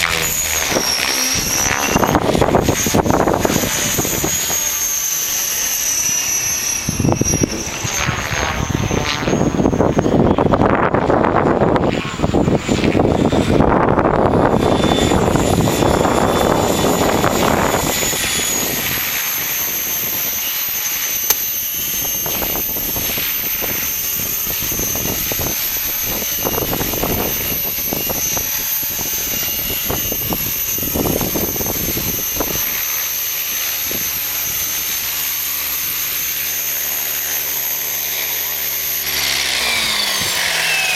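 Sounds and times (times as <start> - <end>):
rc helicopter whine: 0.0 - 40.9
wind buffeting microphone: 0.0 - 40.9.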